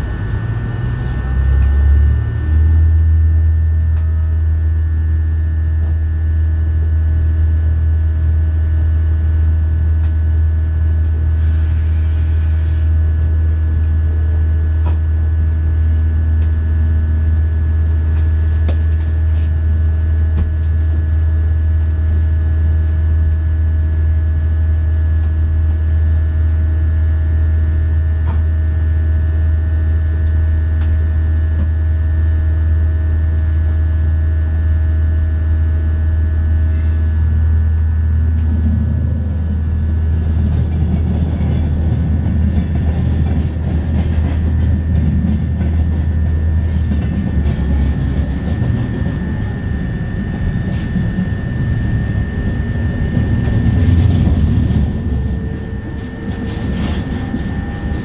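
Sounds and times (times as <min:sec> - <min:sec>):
train drone with whine tones: 0:00.0 - 0:58.0
train running gear rumble: 0:00.0 - 0:58.0.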